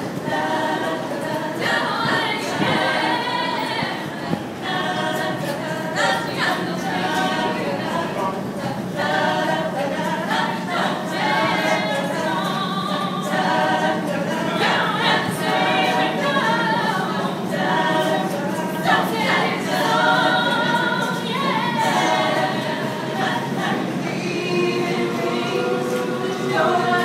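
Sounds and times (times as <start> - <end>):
choir singing a cappella: 0.0 - 27.0.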